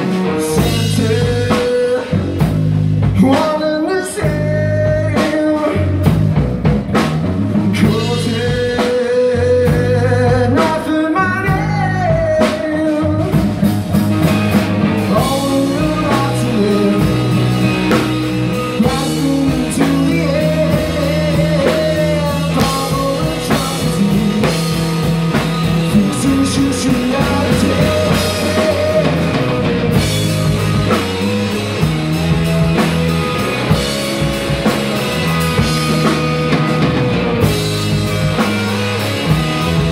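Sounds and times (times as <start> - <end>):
drums and cymbals: 0.0 - 39.9
electric bass notes: 0.0 - 39.9
electric guitar lead line: 0.0 - 39.9.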